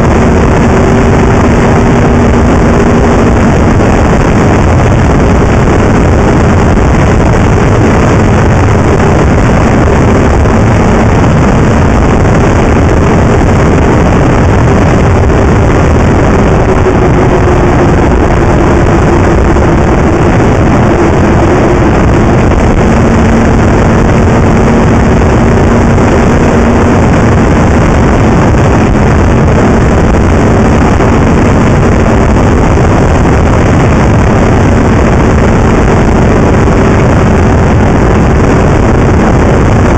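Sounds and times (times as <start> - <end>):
snowmobile engine running: 0.0 - 39.9
wind rushing over microphone: 0.0 - 39.9.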